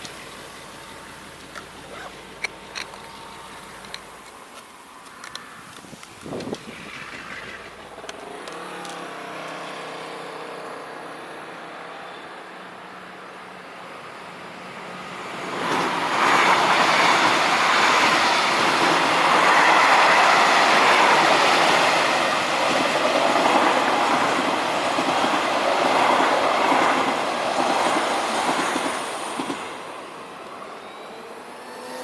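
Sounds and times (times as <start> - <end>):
train passing on rails: 0.0 - 32.0.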